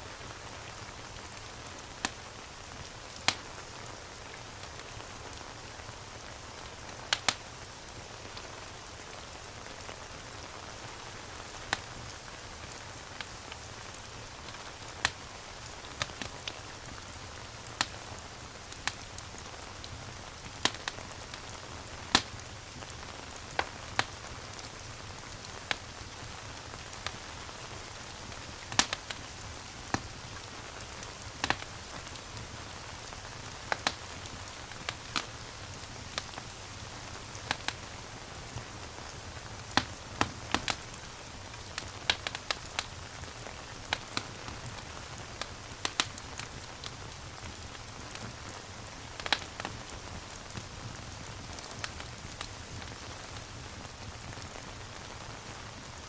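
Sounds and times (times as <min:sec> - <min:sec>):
wood fire crackling: 0:00.2 - 0:56.0.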